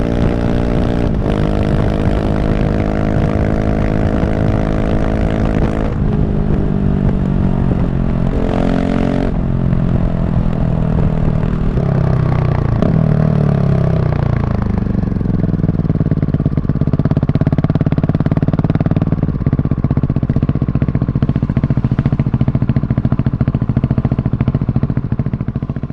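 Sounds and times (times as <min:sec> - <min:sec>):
motorcycle engine with loud exhaust: 0:00.0 - 0:25.9.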